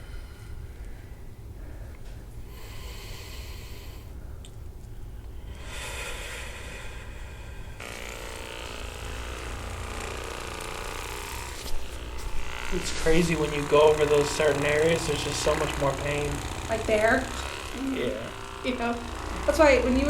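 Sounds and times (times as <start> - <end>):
electric massager humming: 0.0 - 20.0.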